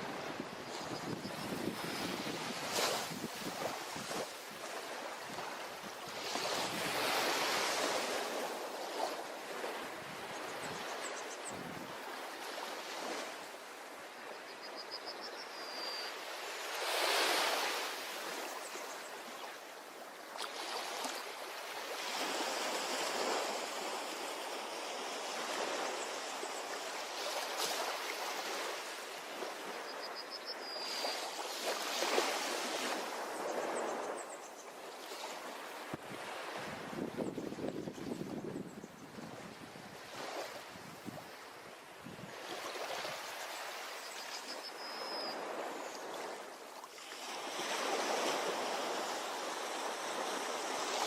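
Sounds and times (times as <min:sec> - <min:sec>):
ocean surf washing on beach: 0:00.0 - 0:14.2, 0:16.2 - 0:30.0, 0:30.8 - 0:44.6, 0:45.3 - 0:51.0.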